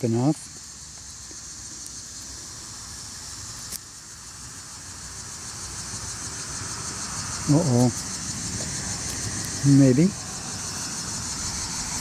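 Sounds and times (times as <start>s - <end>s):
high-pitched insect chirring: 0.0s - 12.0s.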